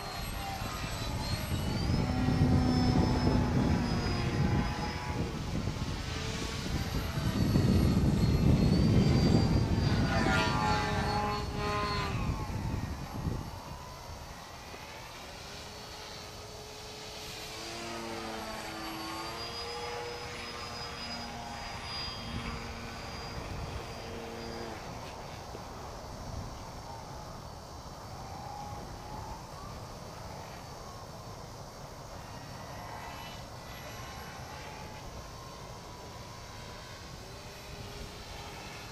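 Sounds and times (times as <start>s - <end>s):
rc airplane motor whining: 0.0s - 38.9s.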